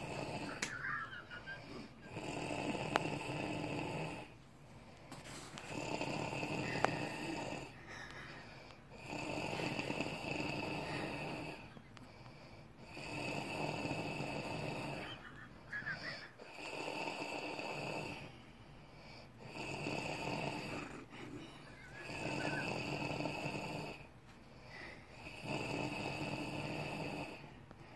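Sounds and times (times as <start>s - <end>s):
man snoring: 0.0s - 4.4s, 5.6s - 8.1s, 8.9s - 11.8s, 12.8s - 18.4s, 19.4s - 24.1s, 24.7s - 27.5s.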